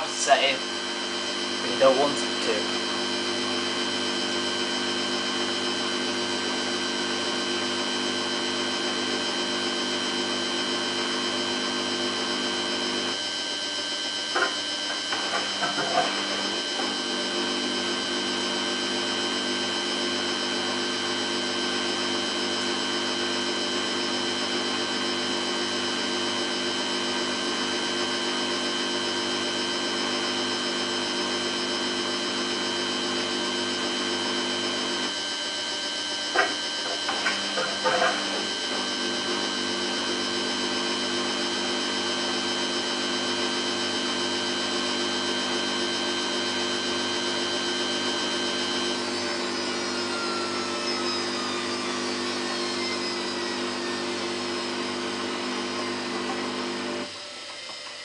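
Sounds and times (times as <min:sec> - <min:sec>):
motor whine: 0:00.0 - 0:58.0
washing machine spinning: 0:00.0 - 0:58.0.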